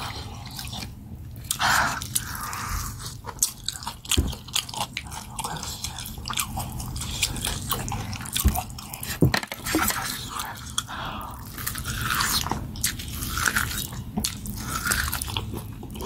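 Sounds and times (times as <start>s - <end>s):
person chewing meat: 0.0s - 16.0s.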